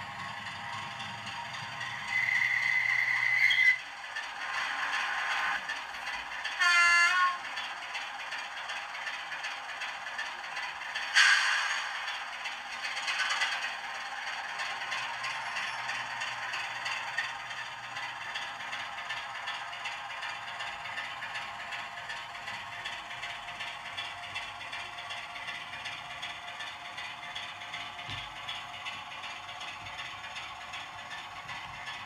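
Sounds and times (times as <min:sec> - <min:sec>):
model train rattling on track: 0:00.0 - 0:32.0.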